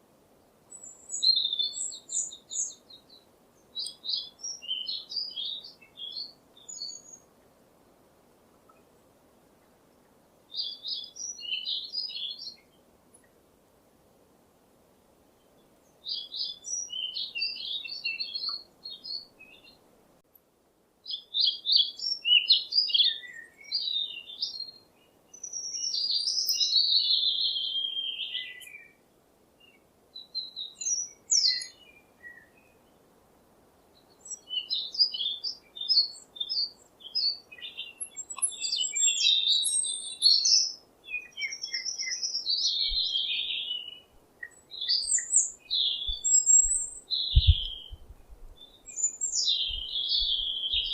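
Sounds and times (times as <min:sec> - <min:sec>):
faint background hiss: 0:00.0 - 0:50.9
songbirds chirping: 0:00.0 - 0:50.9.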